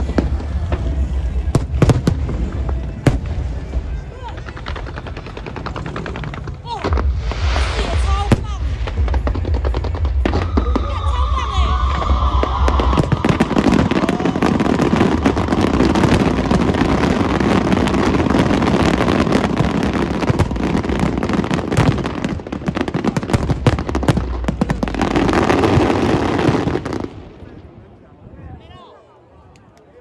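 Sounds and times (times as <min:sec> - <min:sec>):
fireworks cracking and banging: 0:00.0 - 0:27.8.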